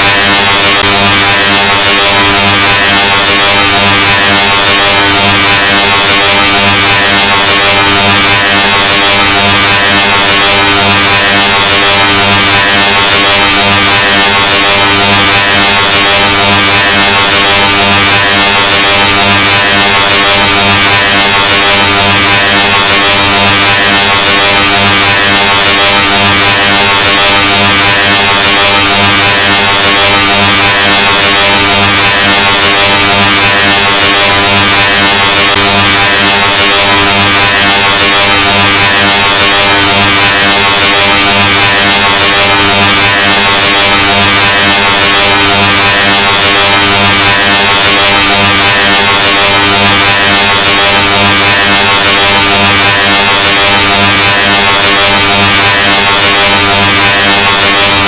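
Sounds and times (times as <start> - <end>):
harsh distorted buzz: 0.0 - 58.0.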